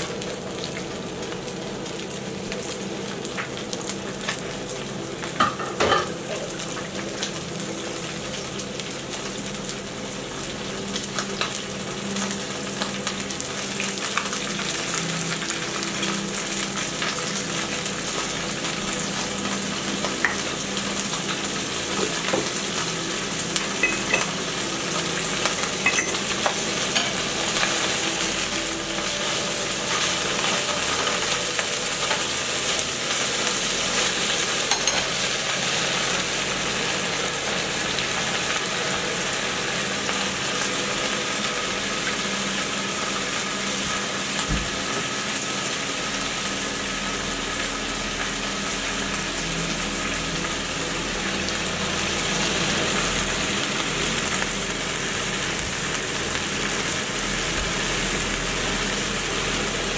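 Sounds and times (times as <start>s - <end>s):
food sizzling in frying pans: 0.0s - 59.9s.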